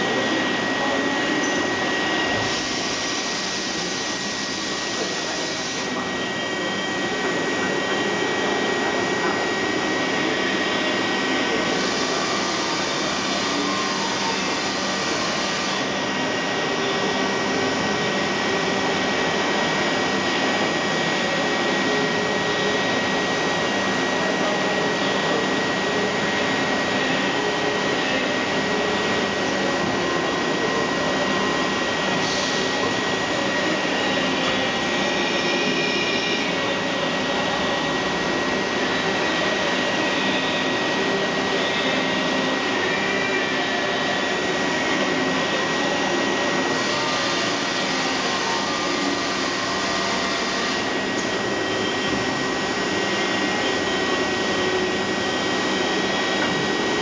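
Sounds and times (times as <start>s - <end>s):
cnc machine whirring with whine: 0.0s - 57.0s.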